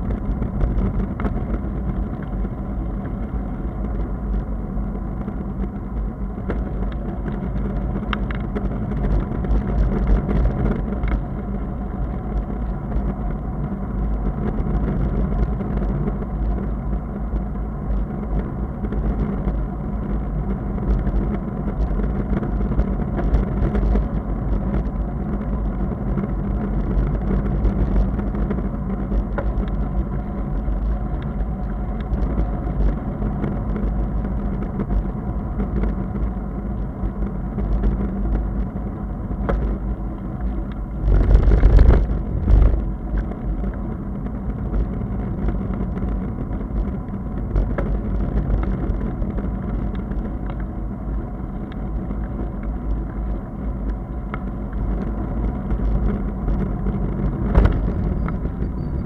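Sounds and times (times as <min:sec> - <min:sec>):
bicycle tyres rolling on asphalt: 0:00.0 - 0:59.0
rumbling wind: 0:00.0 - 0:59.0.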